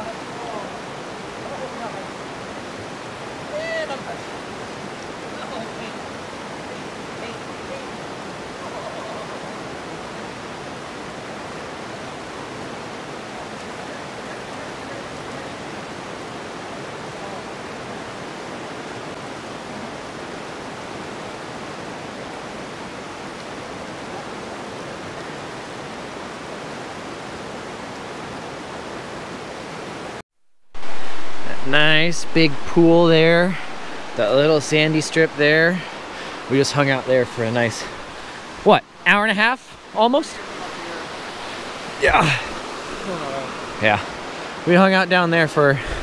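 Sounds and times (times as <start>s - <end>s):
river water rushing: 0.0s - 30.2s, 30.8s - 46.0s.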